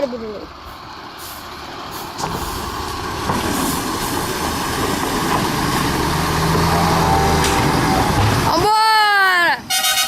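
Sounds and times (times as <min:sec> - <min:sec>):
heavy vehicle engine under load: 0:00.0 - 0:10.0.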